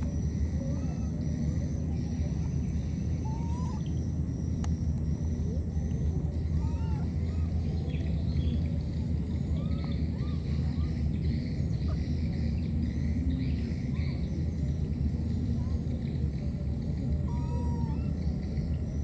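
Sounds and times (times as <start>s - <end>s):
birds chirping and whistling: 0.0s - 19.0s.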